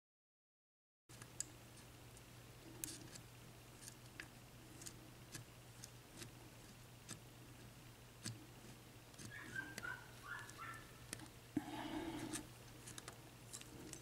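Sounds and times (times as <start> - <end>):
low electrical hum: 1.1 - 14.0.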